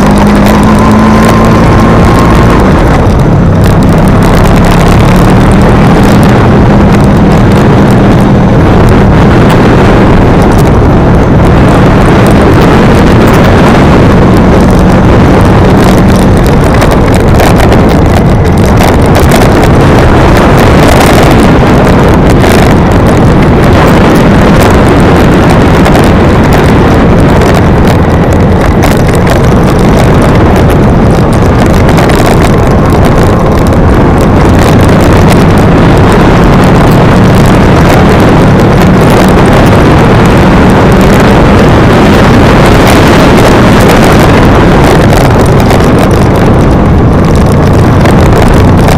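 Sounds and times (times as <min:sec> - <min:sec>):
vehicle engine running: 0:00.0 - 0:48.9
wind rushing over microphone: 0:00.0 - 0:48.9.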